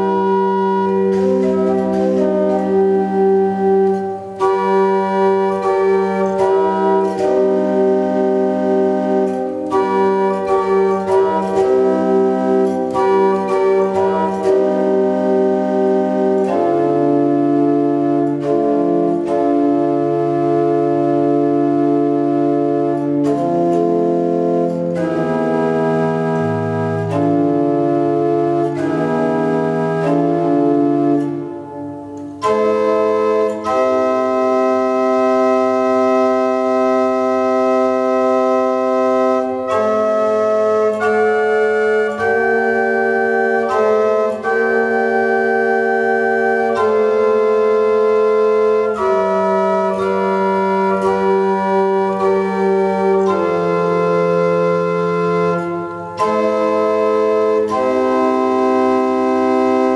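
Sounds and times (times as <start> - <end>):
organ playing chords: 0.0 - 59.9.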